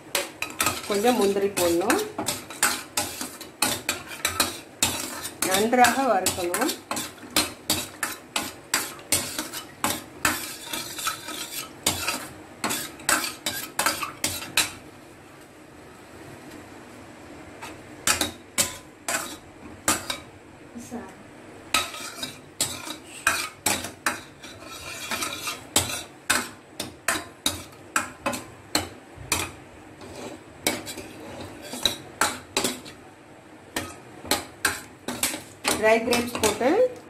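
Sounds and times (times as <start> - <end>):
faint sizzle: 0.0 - 37.0
ladle clinking and scraping pan: 0.1 - 14.8, 18.1 - 20.3, 21.8 - 33.0, 33.8 - 36.6.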